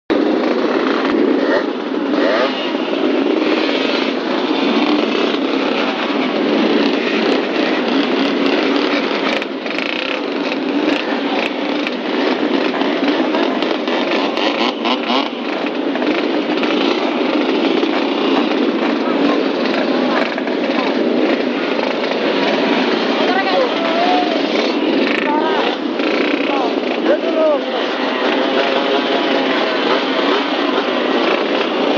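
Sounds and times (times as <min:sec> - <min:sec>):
screaming old vehicle engine: 0:00.1 - 0:31.9.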